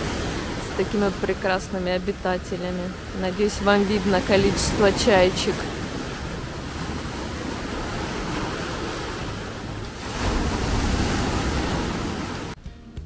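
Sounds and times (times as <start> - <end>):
sea surf washing ashore: 0.0 - 12.6.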